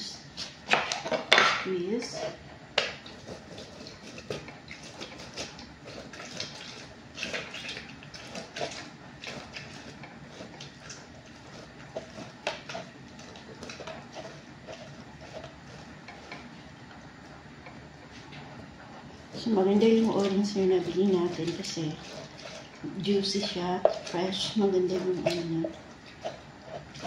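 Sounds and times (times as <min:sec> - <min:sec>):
orange squelching on citrus juicer: 0:00.0 - 0:27.0.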